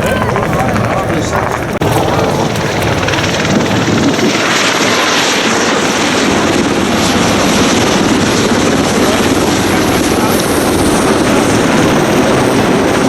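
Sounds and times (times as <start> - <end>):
helicopter rotor and turbine noise: 0.0 - 13.0.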